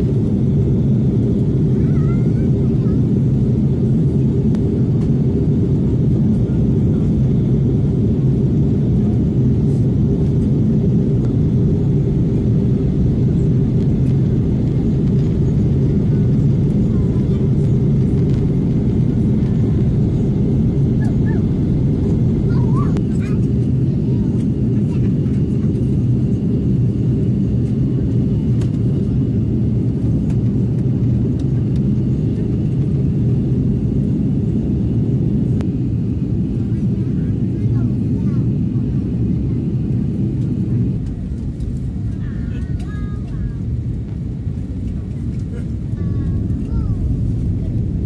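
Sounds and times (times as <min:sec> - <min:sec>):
airliner cabin engine rumble: 0:00.0 - 0:48.0.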